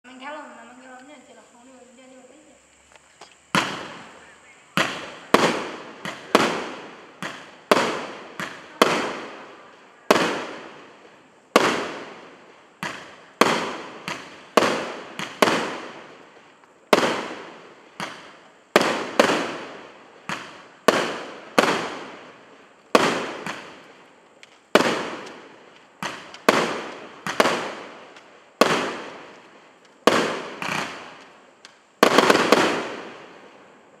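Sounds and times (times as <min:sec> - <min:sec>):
fireworks bangs: 0:03.2 - 0:34.0.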